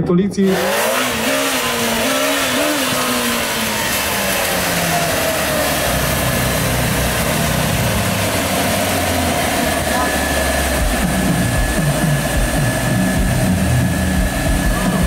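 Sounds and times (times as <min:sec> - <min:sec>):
deep engine rumble: 0:00.0 - 0:15.0
motorcycle engine revving: 0:00.4 - 0:15.0.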